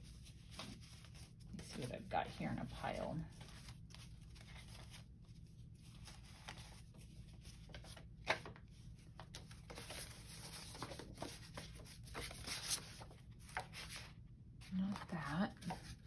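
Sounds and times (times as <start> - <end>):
low steady hum: 0.0 - 16.0
paper rustling and shuffling: 0.0 - 16.0.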